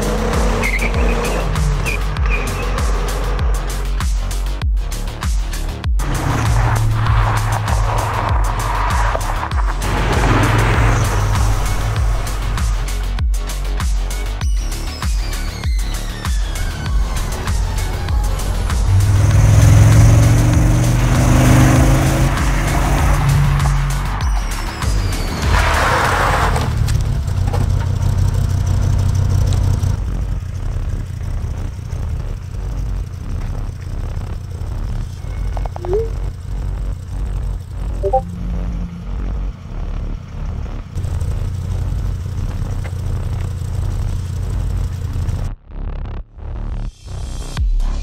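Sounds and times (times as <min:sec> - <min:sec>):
car engine idling: 0:00.0 - 0:25.4, 0:26.5 - 0:45.5.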